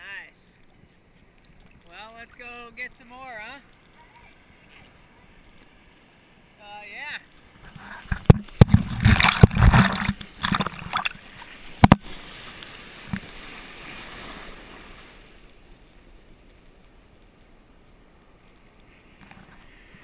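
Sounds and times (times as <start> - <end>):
surf water splashing: 0.0 - 20.0.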